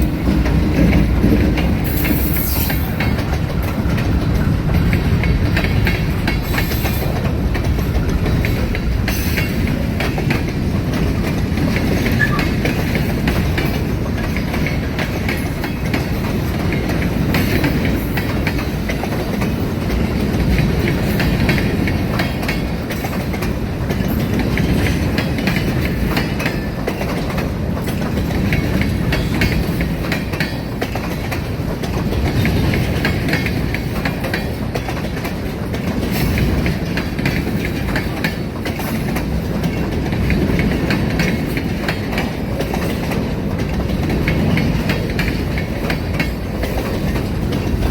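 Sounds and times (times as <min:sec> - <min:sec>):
freight train rumbling: 0:00.0 - 0:47.9
wheels clicking over rail joints: 0:00.0 - 0:47.9.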